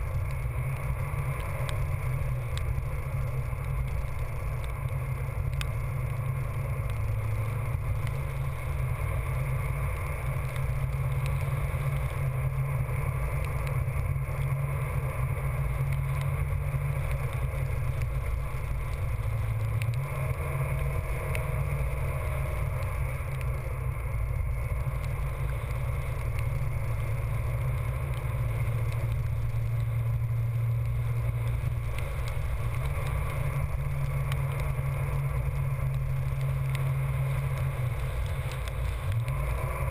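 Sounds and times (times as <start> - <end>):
engine and tyre drone: 0.0 - 39.9.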